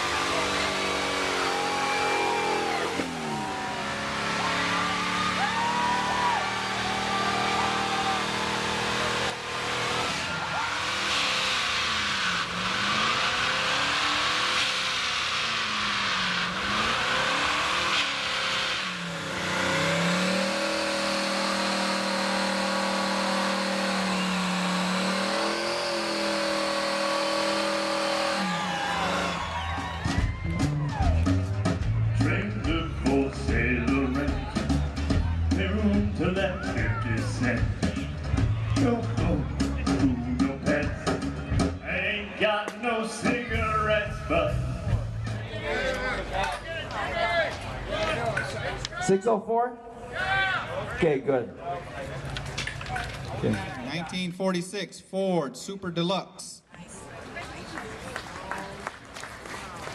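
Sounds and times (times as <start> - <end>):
car engines idling and revving: 0.0 - 49.2, 51.6 - 54.8.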